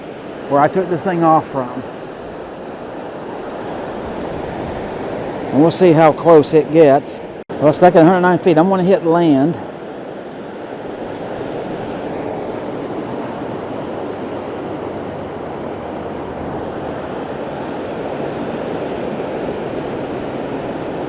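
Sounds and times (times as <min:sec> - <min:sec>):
surf rushing: 0:00.0 - 0:21.0
wind: 0:00.0 - 0:21.0.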